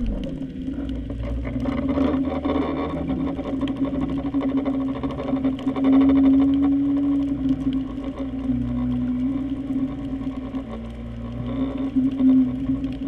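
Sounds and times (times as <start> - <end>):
underwater machinery hum: 0.0 - 13.0.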